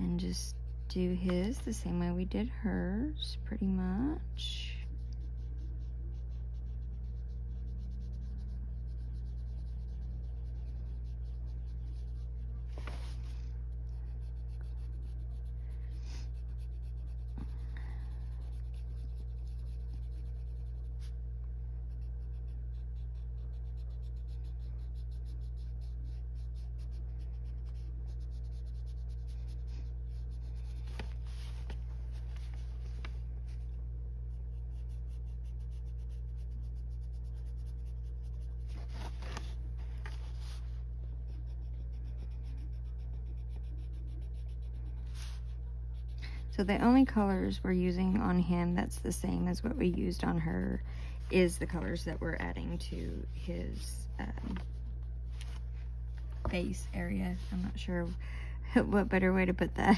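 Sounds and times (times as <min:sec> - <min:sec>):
colored pencil scratching on paper: 0:00.0 - 0:21.2, 0:21.8 - 0:54.8, 0:56.4 - 0:58.2
steady low hum: 0:00.0 - 0:59.9.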